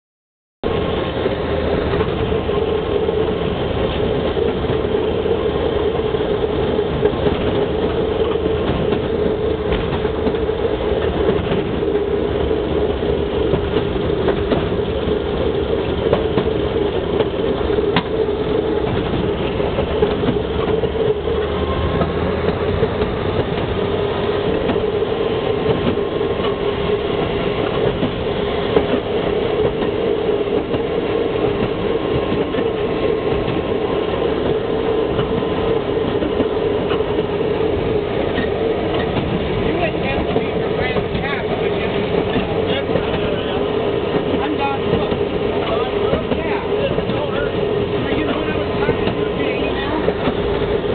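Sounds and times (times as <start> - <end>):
rail motorcar engine: 0.6 - 50.9
wheels clicking over rail joints: 0.7 - 50.9.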